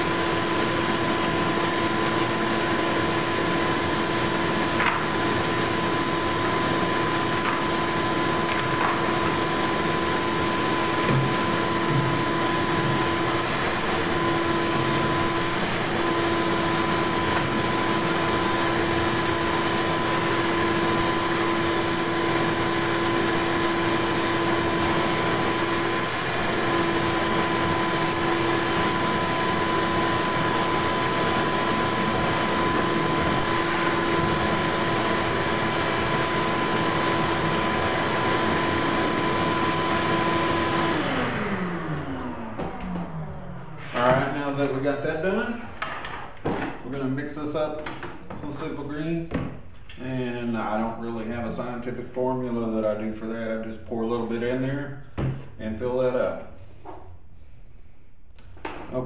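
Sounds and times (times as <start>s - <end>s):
shop vacuum humming: 0.0s - 49.4s.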